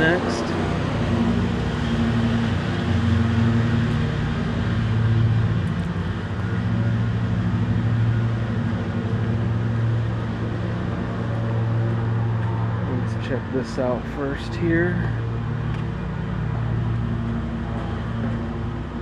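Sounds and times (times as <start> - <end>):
mower engine humming: 0.0 - 19.0.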